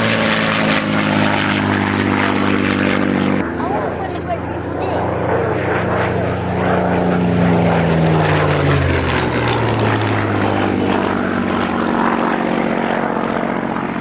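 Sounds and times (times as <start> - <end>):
propeller aircraft engine passing: 0.0 - 14.0.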